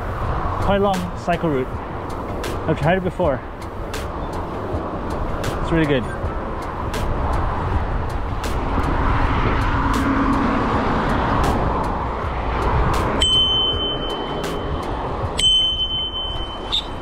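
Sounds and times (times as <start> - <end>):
road traffic: 0.0 - 17.0
wind rushing: 3.4 - 17.0.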